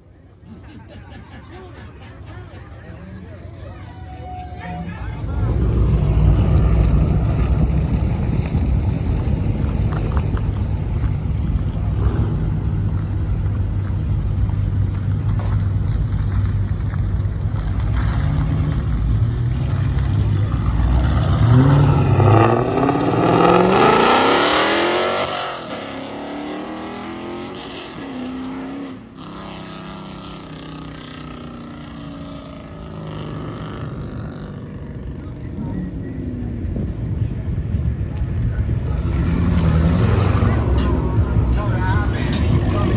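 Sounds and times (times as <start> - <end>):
car engine rumbling and revving: 2.2 - 42.9.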